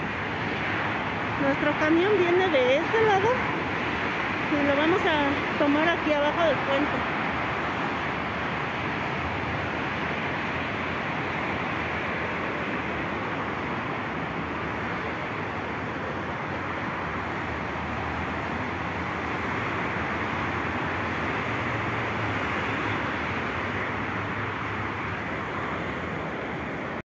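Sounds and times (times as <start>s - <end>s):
expressway traffic hiss: 0.0s - 27.0s
low traffic rumble: 0.0s - 27.0s.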